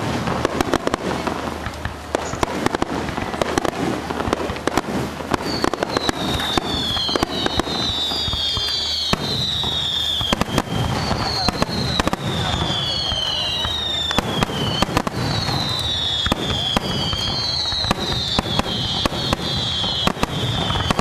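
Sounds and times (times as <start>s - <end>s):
fireworks bangs and crackles: 0.0s - 21.0s
high falling firework whistles: 2.1s - 21.0s.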